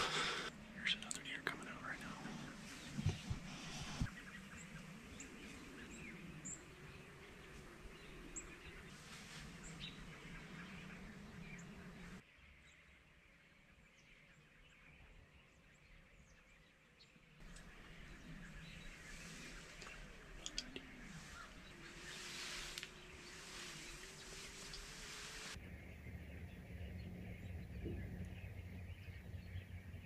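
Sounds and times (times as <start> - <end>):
faint bird chirps: 0.2 - 30.0.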